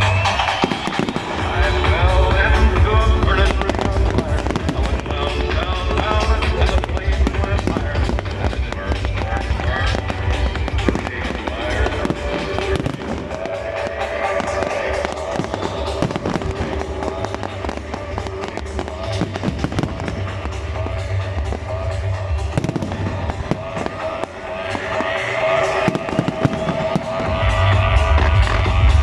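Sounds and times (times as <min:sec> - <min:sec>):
fireworks crackling and banging: 0:00.0 - 0:29.0
fireworks whistling: 0:00.0 - 0:29.0
loud music: 0:00.0 - 0:29.0.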